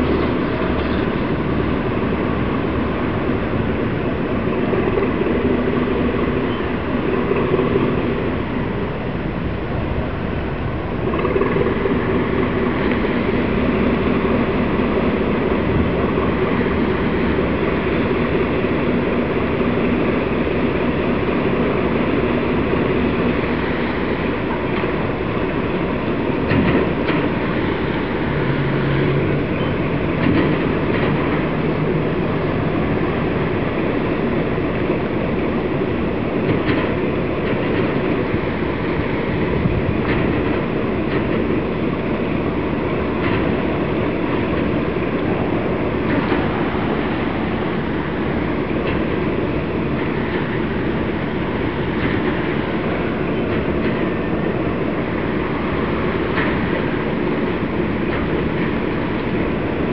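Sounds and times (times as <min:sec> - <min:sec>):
vehicle engine rumble: 0:00.0 - 0:59.9.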